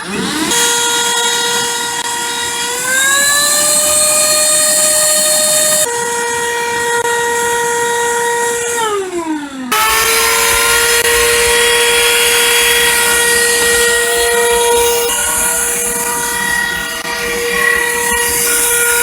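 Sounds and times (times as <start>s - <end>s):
vacuum cleaner motor whining: 0.0s - 19.0s.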